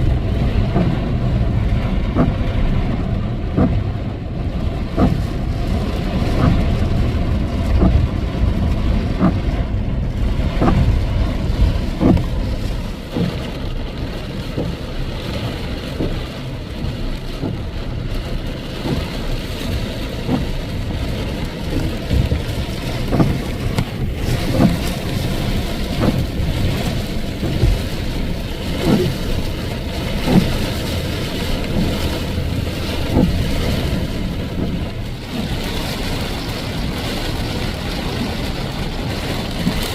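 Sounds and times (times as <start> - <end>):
vehicle engine rumble: 0.0 - 39.9.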